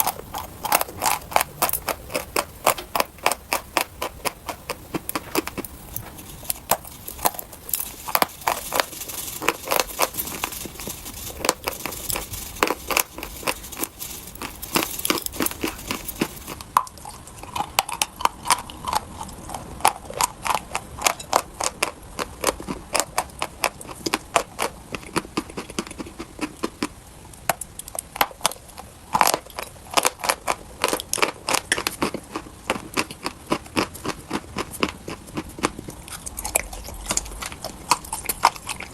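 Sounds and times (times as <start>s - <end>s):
chewing chalk crunches: 0.0s - 27.0s, 27.9s - 38.9s.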